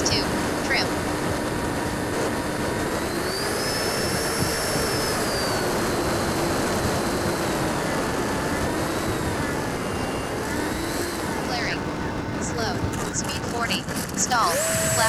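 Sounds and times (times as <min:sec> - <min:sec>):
electric ducted fan whining: 0:00.0 - 0:15.0
rushing wind noise: 0:00.0 - 0:15.0.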